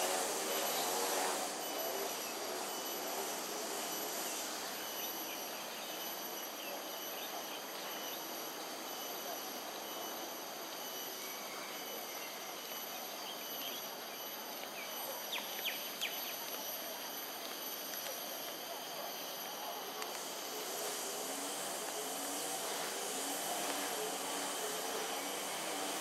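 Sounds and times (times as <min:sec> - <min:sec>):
background hiss: 0:00.0 - 0:26.0
high-pitched insect drone: 0:00.0 - 0:26.0.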